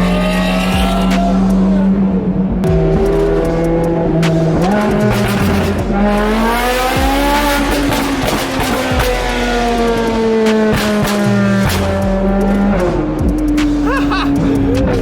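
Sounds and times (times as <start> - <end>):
car engines revving: 0.0 - 15.0
sharp exhaust cracks: 0.0 - 15.0.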